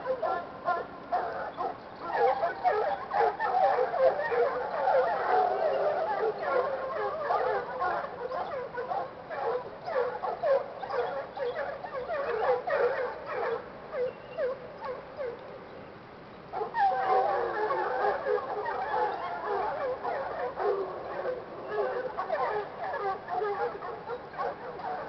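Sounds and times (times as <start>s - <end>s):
hounds baying and yelping: 0.0s - 15.6s, 16.5s - 25.0s.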